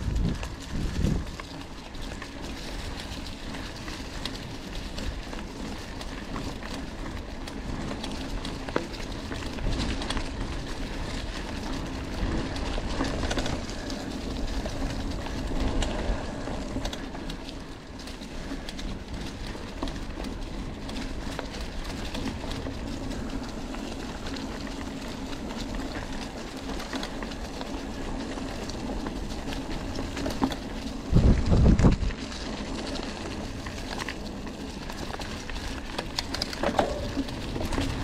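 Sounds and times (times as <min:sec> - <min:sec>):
bike rattling over bumps: 0:00.0 - 0:38.0
tyre and wind rumble: 0:00.0 - 0:38.0.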